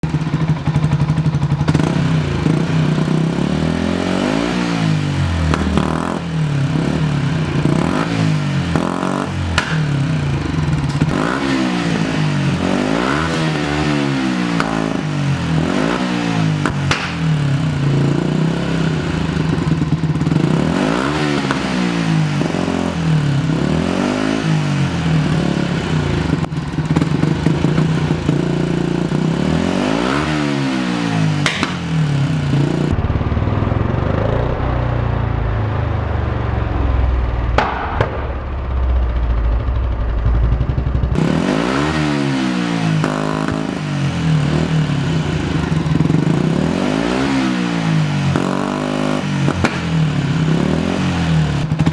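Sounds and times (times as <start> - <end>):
motorcycle engine revving: 0.0 - 51.9
exhaust backfire pops: 4.3 - 23.6, 24.9 - 29.4, 31.1 - 35.8, 36.4 - 46.5, 48.3 - 51.9.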